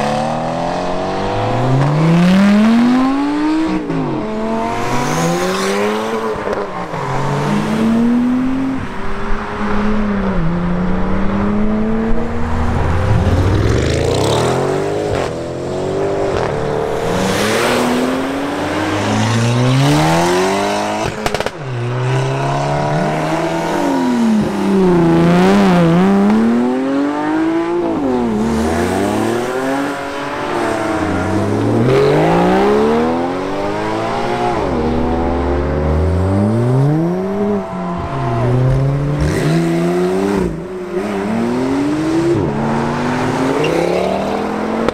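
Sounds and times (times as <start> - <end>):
performance cars accelerating: 0.0 - 44.9.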